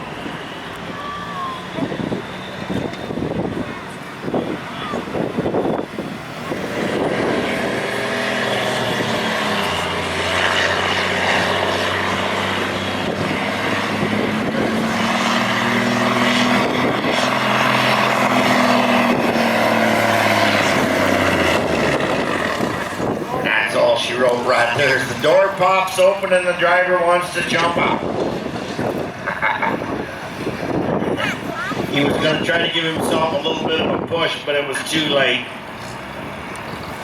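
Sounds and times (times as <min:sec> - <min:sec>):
truck engine running hard: 0:00.0 - 0:37.0.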